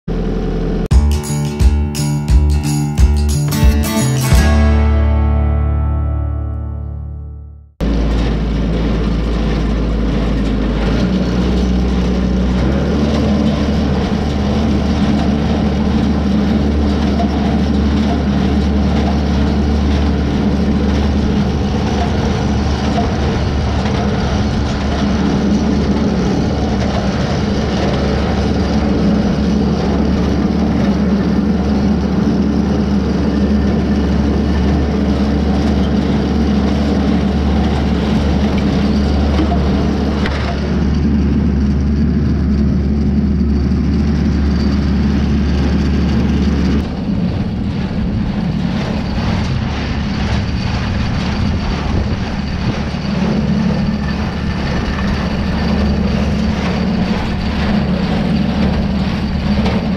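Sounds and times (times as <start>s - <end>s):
tractor engine running: 0.1s - 59.9s
hay baler baling: 7.8s - 59.9s.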